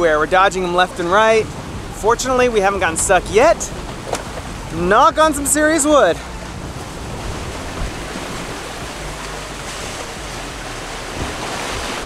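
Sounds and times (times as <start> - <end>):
water rushing around a boat: 0.0 - 12.0
wind: 0.0 - 12.0.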